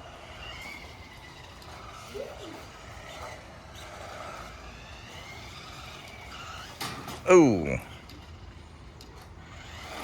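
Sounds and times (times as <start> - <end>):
remote-control car motors whining: 0.0 - 10.0.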